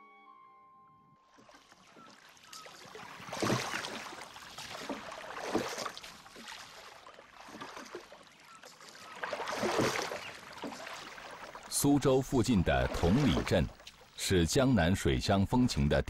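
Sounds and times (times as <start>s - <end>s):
water splashing from oar strokes: 1.3s - 14.2s.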